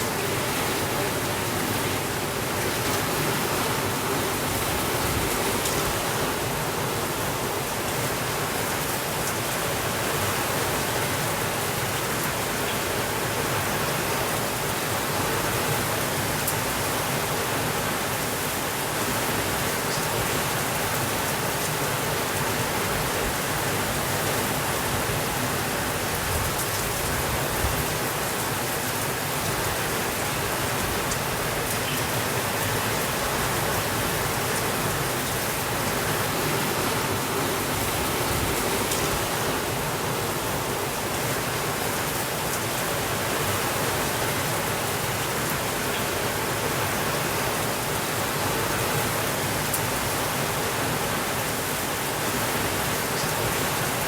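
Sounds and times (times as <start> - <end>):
heavy rain on a window: 0.0 - 54.0.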